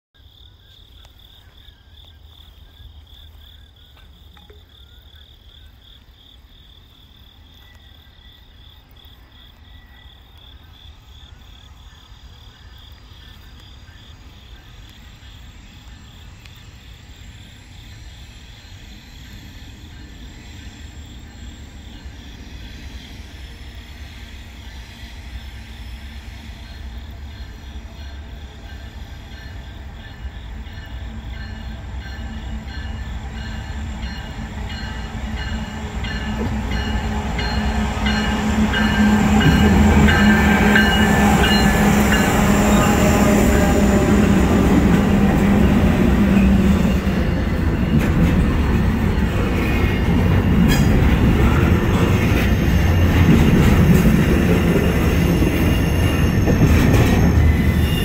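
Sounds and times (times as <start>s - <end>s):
insects chirping trill: 0.2s - 58.0s
freight train rumble: 5.4s - 58.0s.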